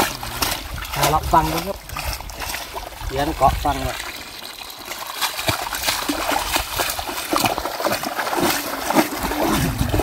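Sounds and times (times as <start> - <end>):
net splashing in muddy water: 0.0 - 10.0.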